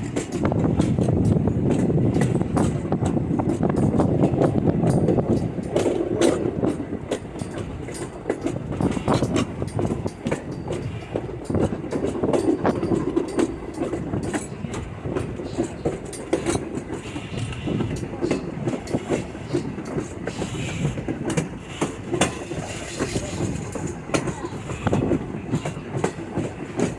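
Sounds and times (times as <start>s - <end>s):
clicks over rail joints: 0.0s - 26.9s
train wheels rumbling: 0.0s - 26.9s.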